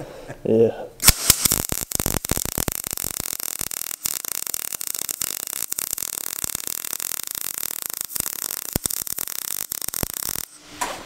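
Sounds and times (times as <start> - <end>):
welding arc crackling: 1.0 - 10.9.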